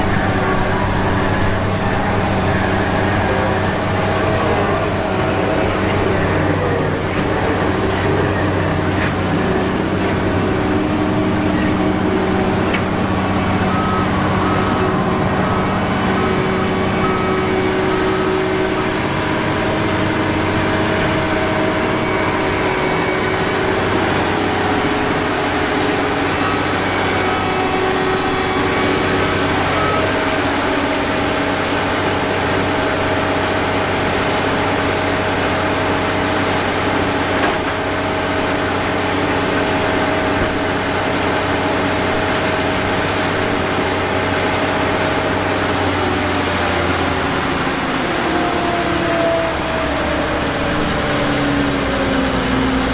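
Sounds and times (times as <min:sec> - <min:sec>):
harvester engine droning: 0:00.0 - 0:52.9.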